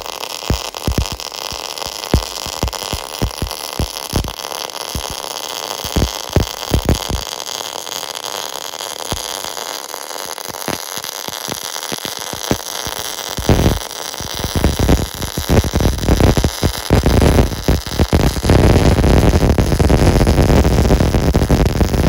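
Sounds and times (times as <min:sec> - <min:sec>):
steady welding hiss: 0:00.0 - 0:22.0
welding arc crackling: 0:00.0 - 0:22.0.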